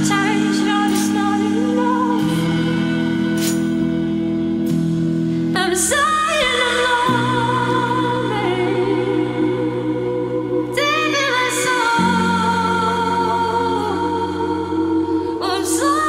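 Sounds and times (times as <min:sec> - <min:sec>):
person singing with vibrato: 0:00.0 - 0:03.8, 0:05.3 - 0:16.0
slow song with low chords: 0:00.0 - 0:16.0.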